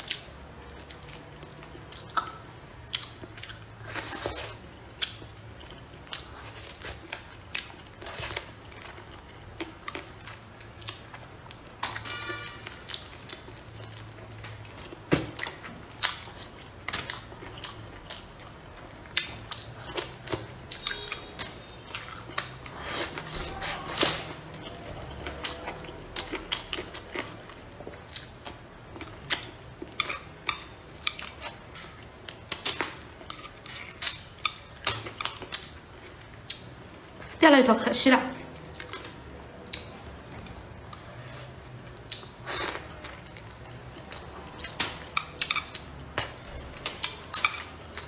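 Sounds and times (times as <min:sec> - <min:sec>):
person chewing: 0:00.0 - 0:37.4, 0:38.5 - 0:48.0.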